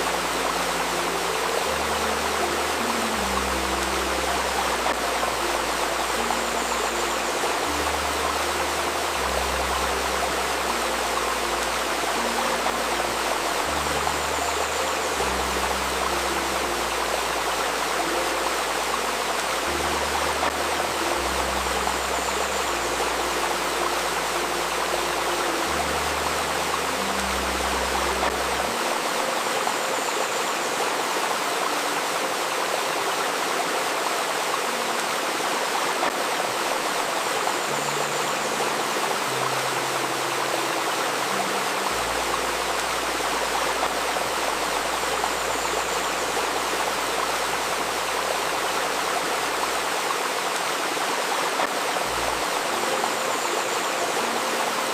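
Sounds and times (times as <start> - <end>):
stream flowing: 0.0 - 54.9.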